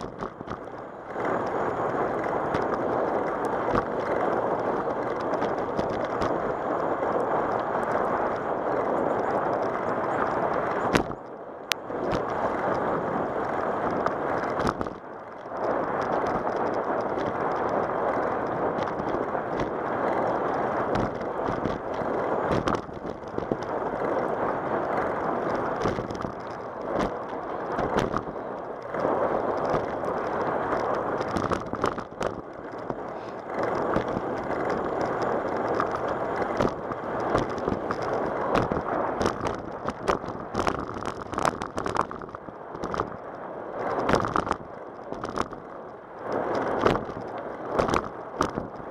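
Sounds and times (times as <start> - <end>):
bicycle tyres rolling on asphalt: 0.0 - 48.9.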